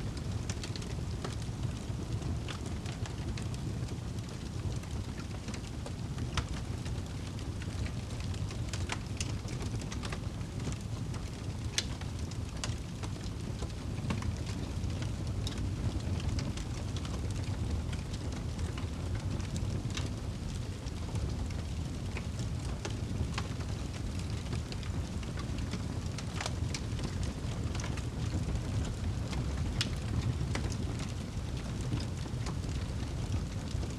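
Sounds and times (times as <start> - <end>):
campfire crackling: 0.1 - 33.9.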